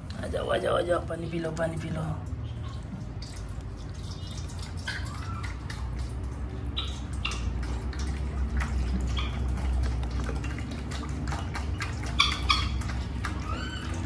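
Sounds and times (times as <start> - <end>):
steady low hum: 0.0 - 14.0
water dripping onto steel plate: 2.2 - 14.0.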